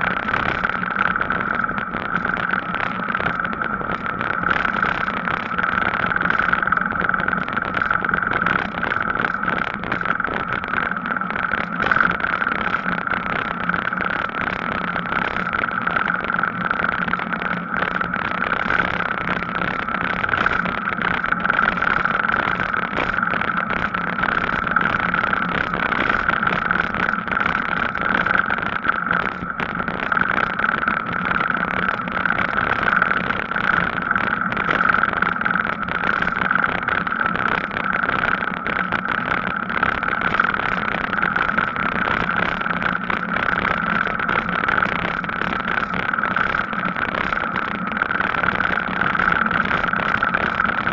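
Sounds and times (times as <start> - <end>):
high hum: 0.0 - 50.9.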